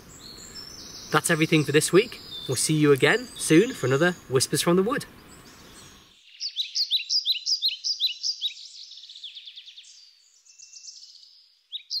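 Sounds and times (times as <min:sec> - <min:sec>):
songbird singing notes and trill: 0:00.0 - 0:12.0.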